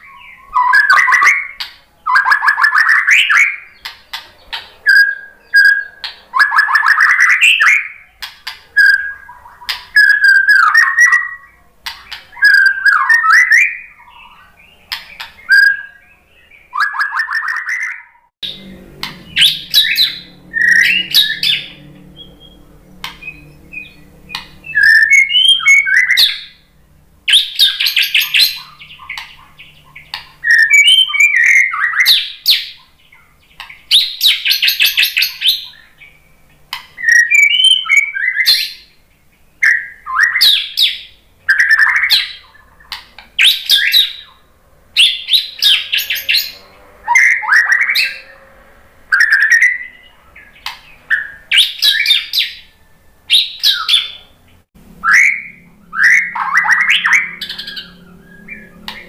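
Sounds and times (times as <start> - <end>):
bird singing whistled phrases: 0.0 - 3.9, 4.5 - 8.2, 8.8 - 26.6, 27.3 - 36.2, 37.0 - 39.0, 39.6 - 44.4, 49.1 - 54.3, 55.0 - 59.0.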